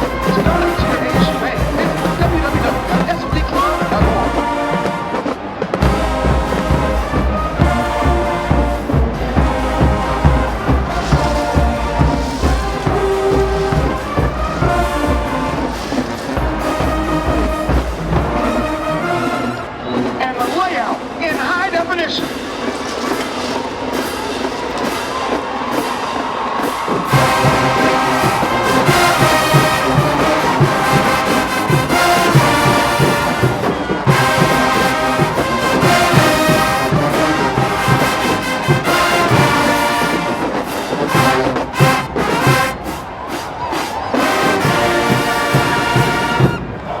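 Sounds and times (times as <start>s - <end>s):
drums heavy beat: 0.0s - 19.3s, 20.2s - 46.9s
marching band brass playing: 0.0s - 47.0s.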